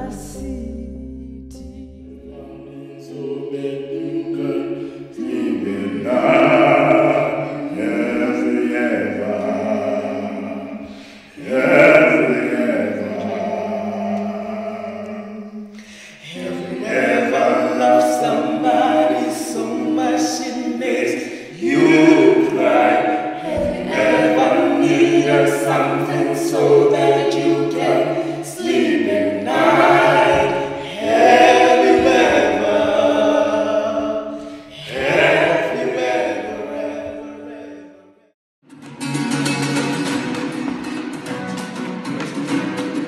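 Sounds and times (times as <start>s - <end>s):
group of voices singing in harmony: 0.0s - 38.2s.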